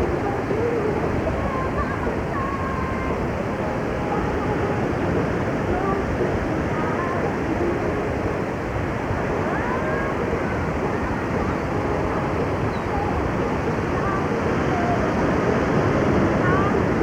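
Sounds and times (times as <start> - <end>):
ocean surf: 0.0 - 17.0
wind on microphone: 0.0 - 17.0.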